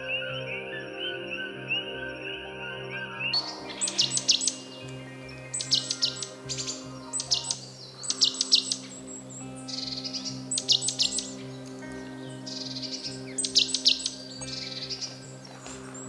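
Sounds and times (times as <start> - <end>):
ambient music of held tones: 0.0 - 16.0
birds chirping: 0.0 - 16.0.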